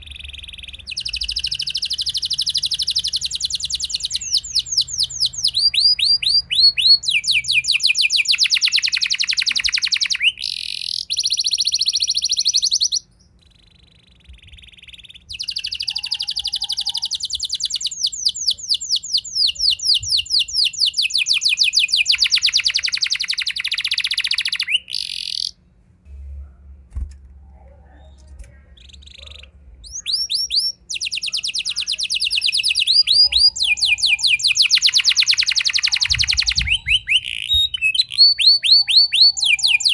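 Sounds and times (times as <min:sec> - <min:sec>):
canary singing trills: 0:00.0 - 0:25.6, 0:27.8 - 0:39.9.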